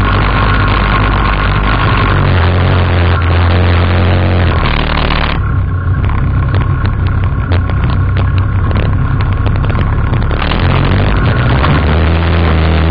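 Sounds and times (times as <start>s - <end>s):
quad bike engine running: 0.0s - 12.9s
sharp clicks and knocks: 0.0s - 12.9s.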